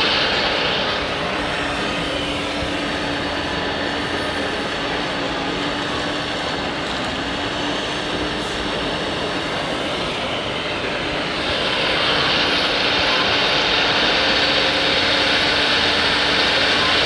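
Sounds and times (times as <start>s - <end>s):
high hissing whine: 0.0s - 6.8s, 7.5s - 17.0s
electric motors whirring: 0.0s - 17.0s.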